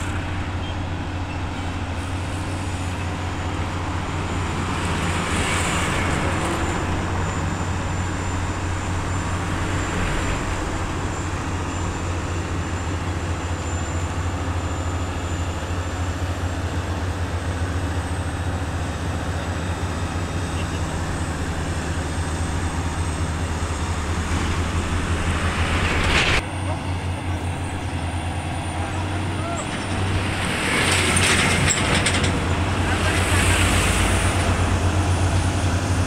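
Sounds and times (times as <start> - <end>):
diesel truck engines droning: 0.0 - 36.0.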